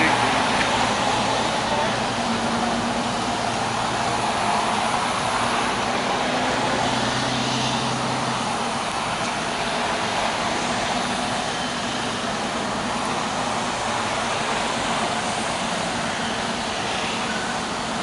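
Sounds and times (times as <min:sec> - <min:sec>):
city buses driving past: 0:00.0 - 0:18.0
low bus engine hum: 0:00.0 - 0:18.0.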